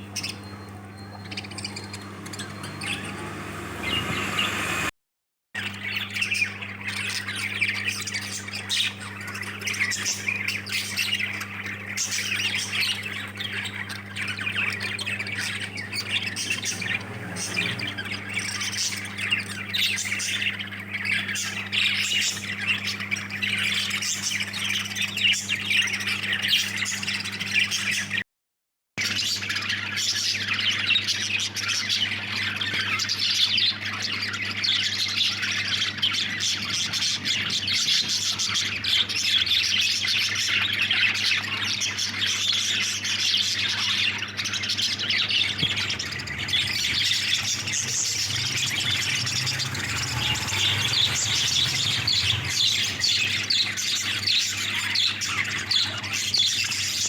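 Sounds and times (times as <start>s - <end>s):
budgerigars chattering and squawking: 0.0s - 4.9s, 5.6s - 28.2s, 29.0s - 57.0s.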